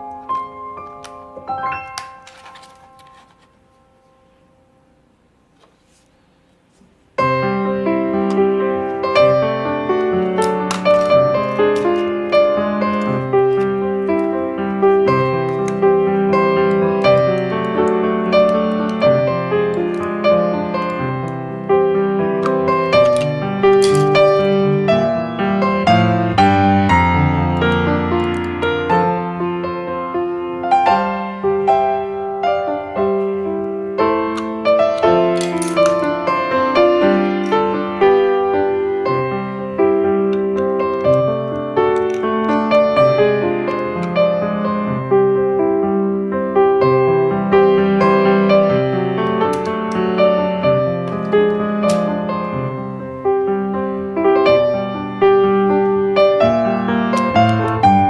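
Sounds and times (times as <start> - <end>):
gentle piano music: 0.0 - 5.0, 7.2 - 58.0.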